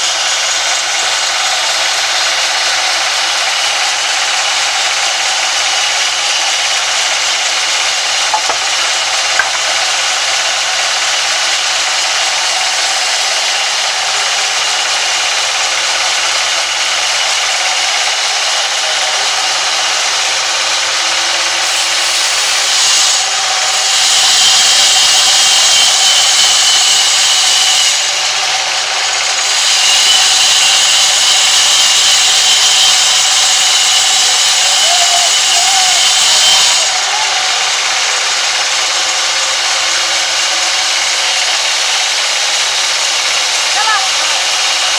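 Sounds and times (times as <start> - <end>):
band saw cutting wood: 0.0 - 44.9.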